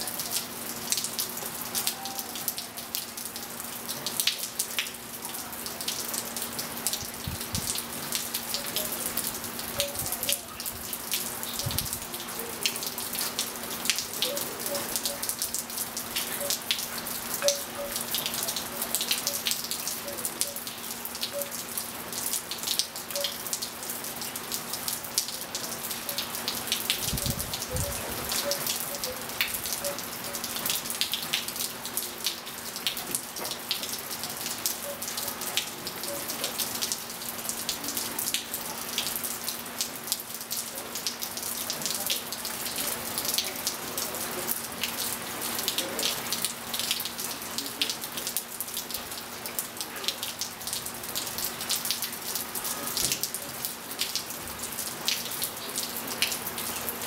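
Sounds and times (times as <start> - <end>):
rain falling on pool and tiles: 0.0 - 57.0
sharp drips: 0.0 - 57.0.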